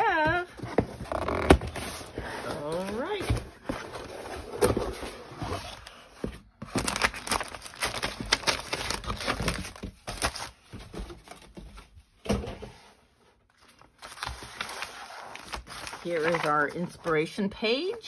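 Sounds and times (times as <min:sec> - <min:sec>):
paper and cardboard rustling: 0:00.0 - 0:18.0.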